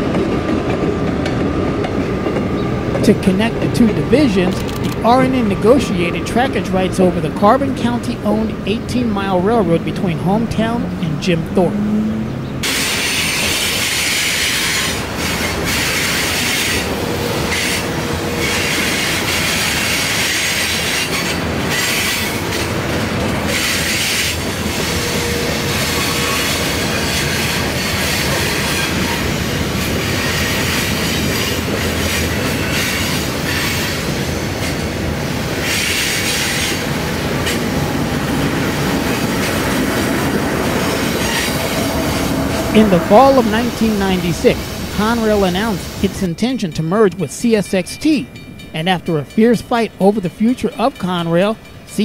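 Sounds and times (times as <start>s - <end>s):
diesel locomotive engine hum: 0.0s - 52.0s
freight train rolling past: 0.0s - 52.0s.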